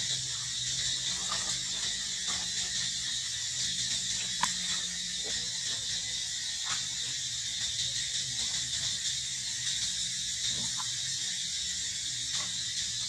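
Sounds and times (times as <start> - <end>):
high-pitched insect buzz: 0.0 - 13.0.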